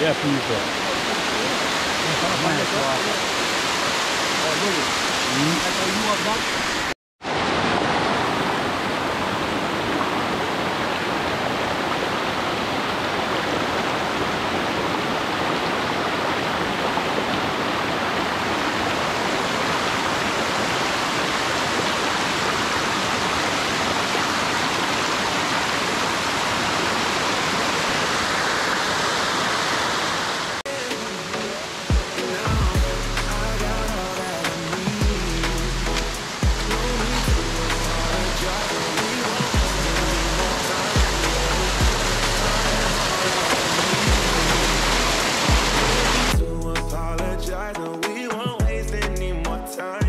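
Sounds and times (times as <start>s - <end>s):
waterfall rushing: 0.0s - 49.2s.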